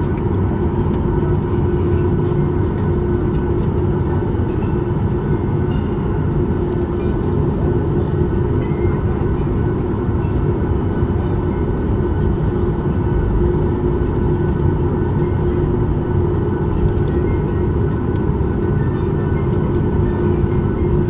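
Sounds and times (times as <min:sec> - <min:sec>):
jet engines idling hum: 0:00.0 - 0:21.0.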